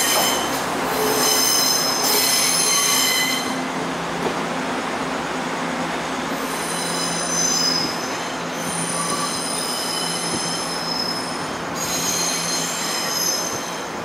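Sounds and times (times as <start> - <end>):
train wheels squealing: 0.0 - 3.6, 6.3 - 14.0.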